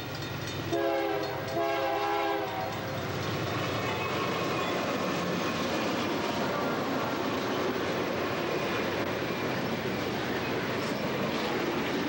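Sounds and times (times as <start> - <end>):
diesel locomotives passing: 0.0 - 12.0
wheels on rails: 0.0 - 12.0.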